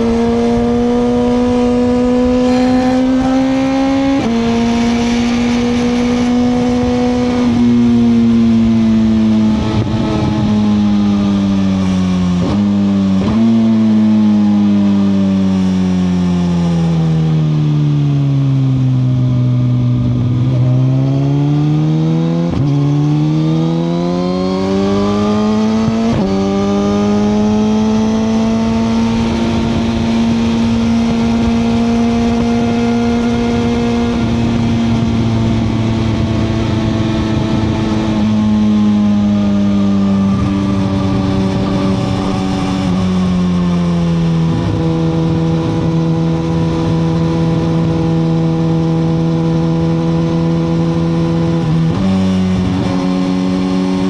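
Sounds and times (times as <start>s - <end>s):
wind rush: 0.0s - 13.4s, 23.8s - 54.0s
motorcycle engine: 0.0s - 54.0s.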